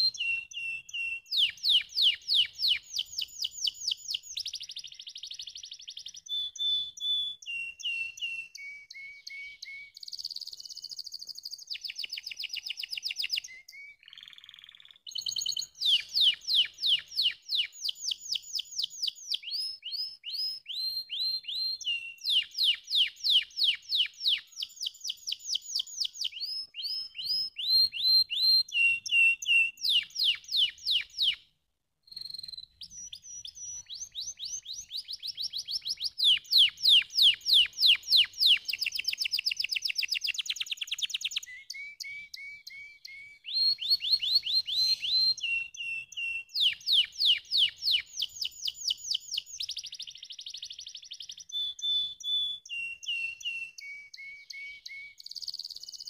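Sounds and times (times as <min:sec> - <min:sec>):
canary singing trills: 0:00.0 - 0:31.5, 0:32.1 - 0:56.0.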